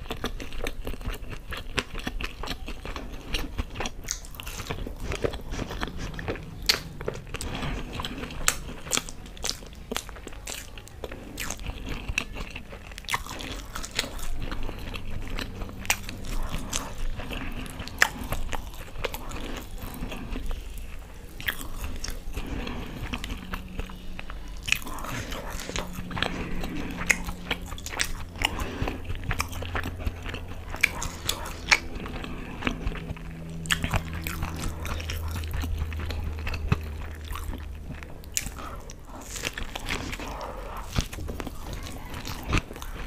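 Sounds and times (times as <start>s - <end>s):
chewing and crunching fried food: 0.0s - 43.0s.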